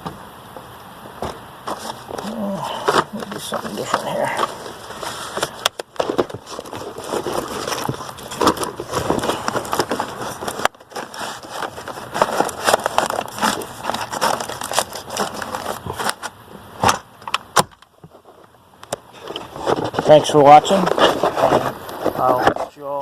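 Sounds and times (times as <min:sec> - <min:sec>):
rustling: 0:00.0 - 0:23.0
objects clicking and knocking: 0:01.2 - 0:22.7.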